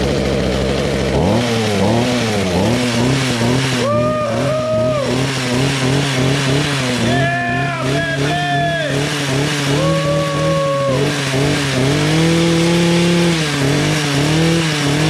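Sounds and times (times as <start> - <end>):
hedge trimmer engine revving: 0.0 - 15.0
high whine: 2.4 - 15.0.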